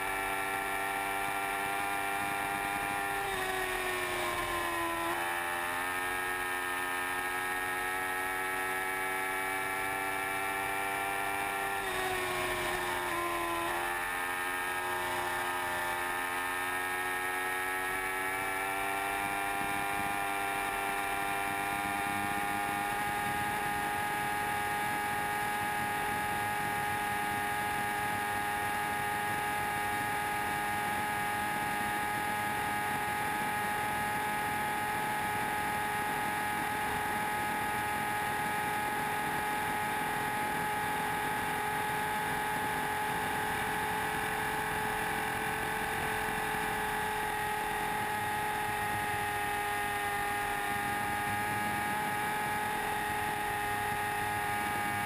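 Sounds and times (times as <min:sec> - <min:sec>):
motorcycle engine at full throttle: 0:00.0 - 0:55.0.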